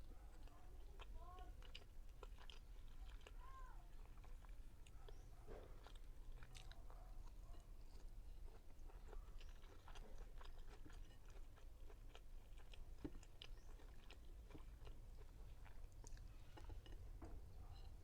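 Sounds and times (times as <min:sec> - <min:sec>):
faint chewing and mouth sounds: 0:00.0 - 0:18.0.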